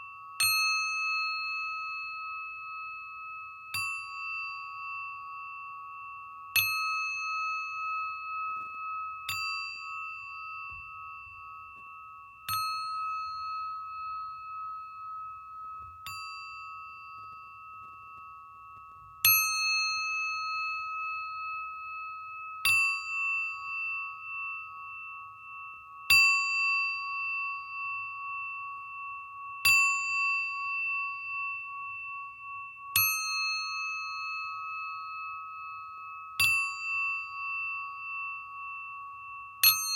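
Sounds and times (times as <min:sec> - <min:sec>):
singing bowl ringing: 0:00.0 - 0:39.9.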